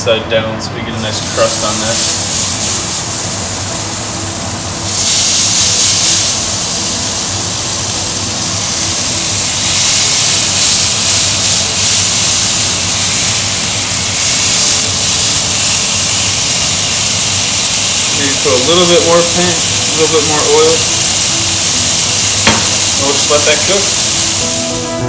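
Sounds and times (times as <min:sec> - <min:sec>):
steak sizzling in a pan: 0:01.1 - 0:25.0.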